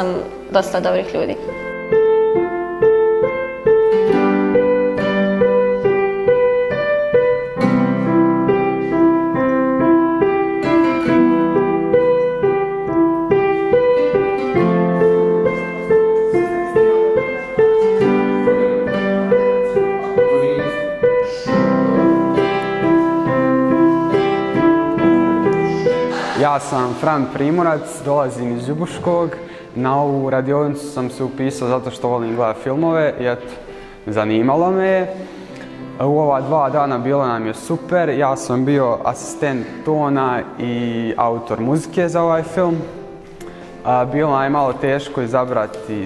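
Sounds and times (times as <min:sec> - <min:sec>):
piano playing broken chords: 0:00.0 - 0:46.0.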